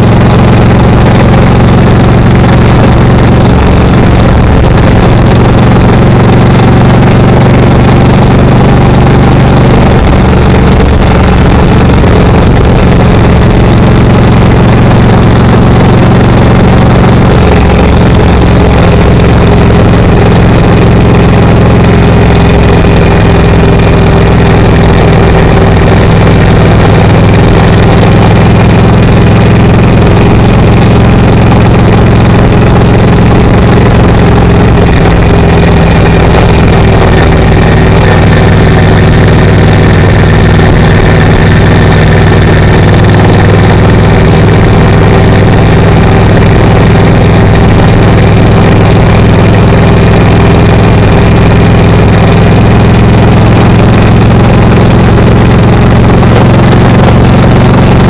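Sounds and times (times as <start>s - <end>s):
road noise: 0.0s - 54.6s, 55.2s - 58.0s
car engine running: 0.0s - 58.0s.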